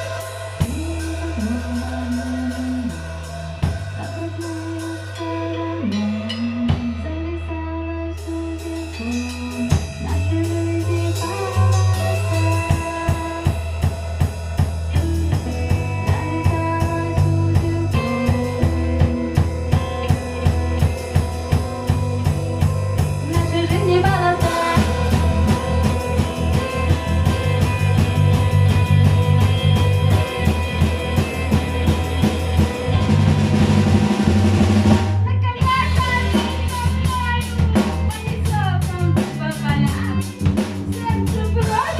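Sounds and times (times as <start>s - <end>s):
steady drum beat: 0.0s - 7.1s, 8.3s - 41.9s
band music with guitar and bass: 0.0s - 41.9s.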